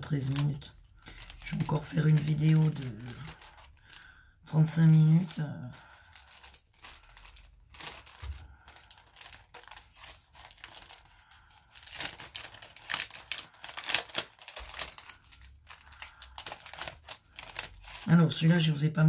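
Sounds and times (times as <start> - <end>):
paper crinkling and rustling: 0.0 - 18.8.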